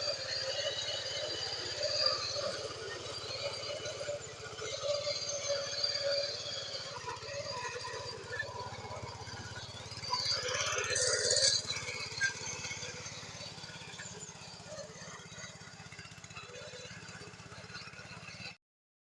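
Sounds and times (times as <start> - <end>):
small tractor engine running: 0.0 - 18.6.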